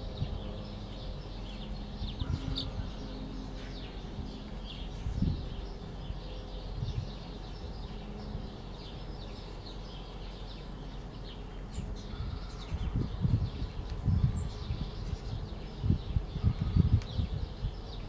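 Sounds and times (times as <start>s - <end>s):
low rumbling: 0.0s - 18.0s
chicks peeping: 0.1s - 18.0s.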